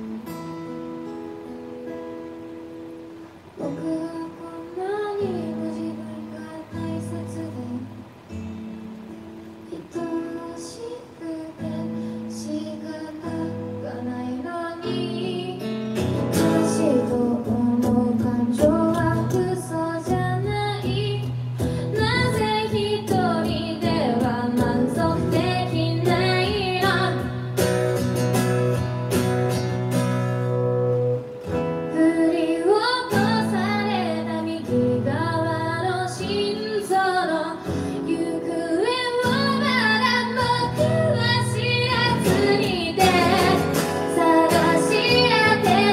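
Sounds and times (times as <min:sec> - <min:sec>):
strummed acoustic guitar: 0:00.0 - 0:45.9
woman singing a slow song: 0:03.4 - 0:08.6, 0:09.5 - 0:27.7, 0:31.8 - 0:45.9.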